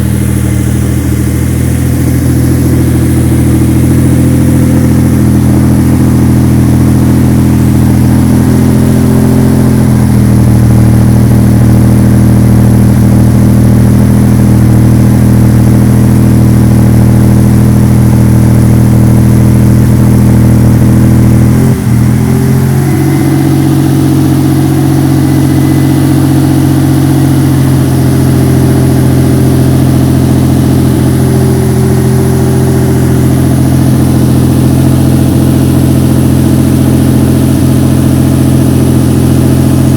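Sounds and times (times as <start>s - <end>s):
car engine idling loudly: 0.0s - 39.9s.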